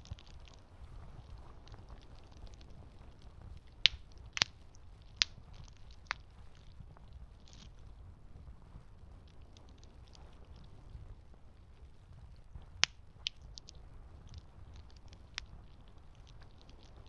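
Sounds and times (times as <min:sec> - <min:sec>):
wood crackling and popping: 0:00.0 - 0:17.0.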